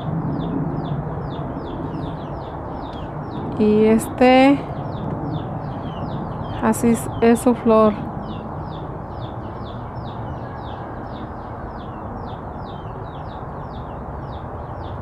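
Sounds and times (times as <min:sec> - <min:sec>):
low background noise: 0:00.0 - 0:15.0
small bird chirping: 0:00.0 - 0:15.0.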